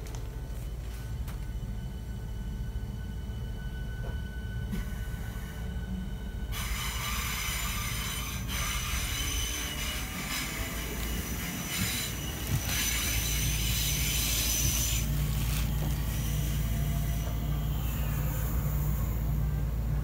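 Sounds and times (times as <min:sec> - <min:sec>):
train low rumble: 0:00.0 - 0:20.0
wheels squealing on rails: 0:03.5 - 0:20.0.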